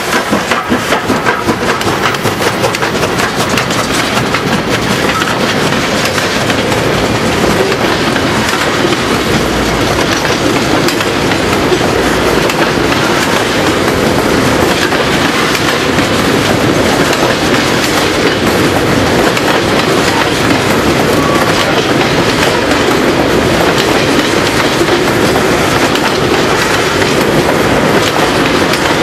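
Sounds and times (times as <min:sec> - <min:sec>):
steel wheels rumbling on rail: 0:00.0 - 0:29.0
wheels clacking over rail joints: 0:00.0 - 0:29.0.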